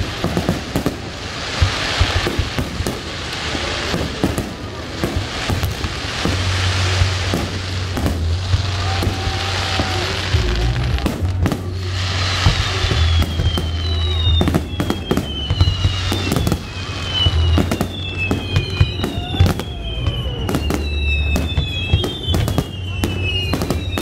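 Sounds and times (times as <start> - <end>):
falling firework whistles: 0.0 - 24.0
fireworks bursting: 0.0 - 24.0.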